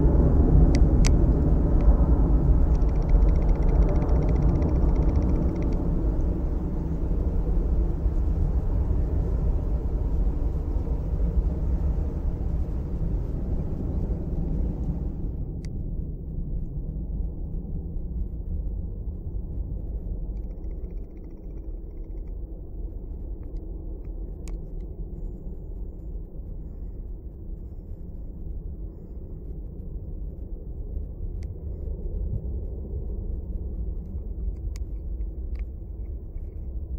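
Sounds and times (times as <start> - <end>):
distant jet engines rumbling: 0.0 - 36.9.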